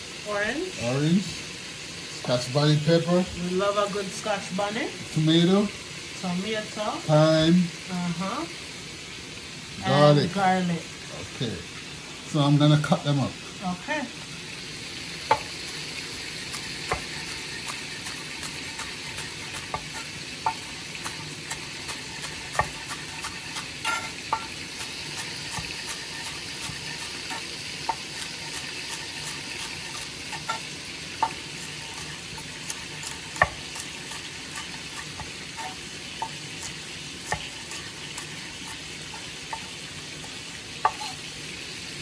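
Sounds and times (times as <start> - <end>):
chicken sizzling in oil: 0.0 - 42.0.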